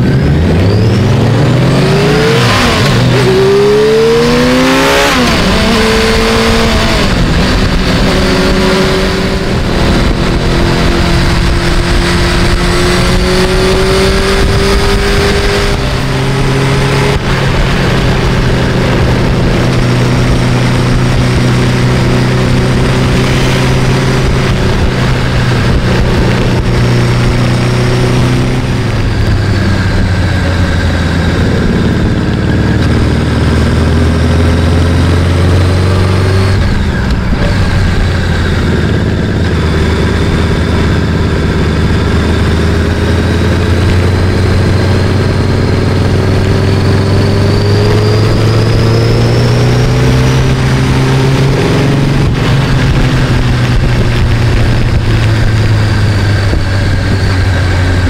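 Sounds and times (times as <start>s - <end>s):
motorcycle engine revving: 0.0s - 58.0s
wind noise: 0.0s - 58.0s.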